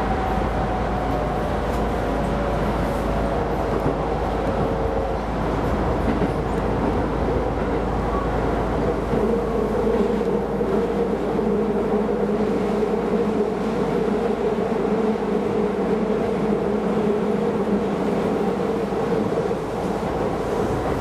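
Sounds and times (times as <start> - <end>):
train rolling and motor noise: 0.0 - 21.0.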